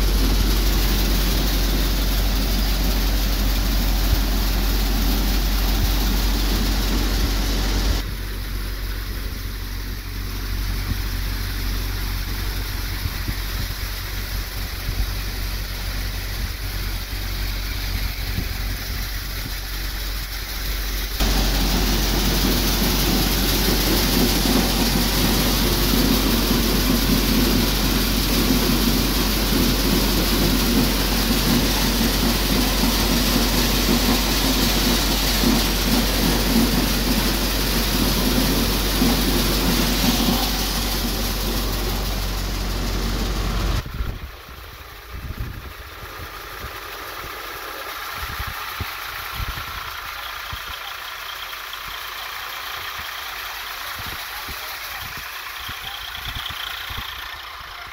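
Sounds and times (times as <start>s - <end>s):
thresher machine running: 0.0s - 57.9s.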